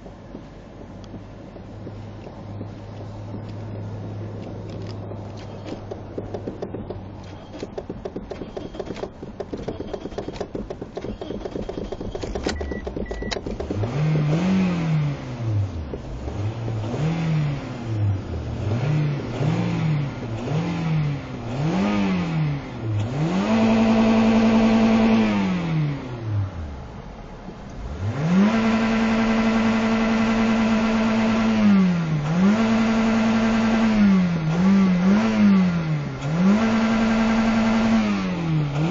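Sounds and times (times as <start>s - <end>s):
car engine cranking: 0.0s - 38.9s
car engine revving: 1.6s - 38.9s.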